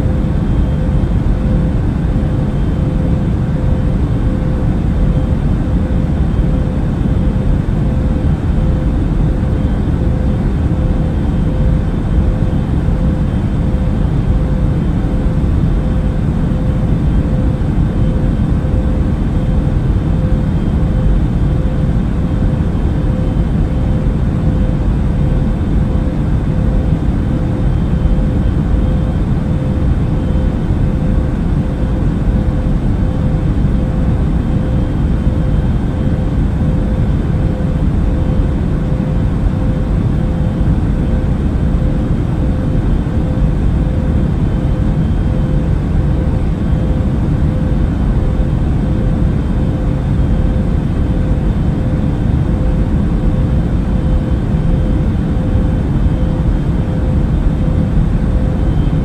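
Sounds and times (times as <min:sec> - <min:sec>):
airliner engine rumble: 0:00.0 - 0:59.0
faint constant hum: 0:00.0 - 0:59.0.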